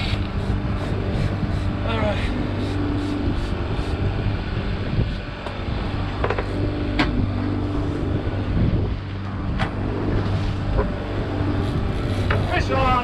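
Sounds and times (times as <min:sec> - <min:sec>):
boat motor running: 0:00.0 - 0:13.0
wind on microphone: 0:00.0 - 0:13.0.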